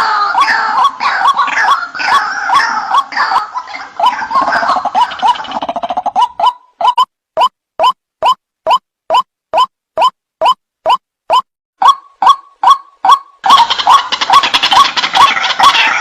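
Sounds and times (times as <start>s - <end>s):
waterhen calls: 0.0s - 10.6s, 11.3s - 16.0s.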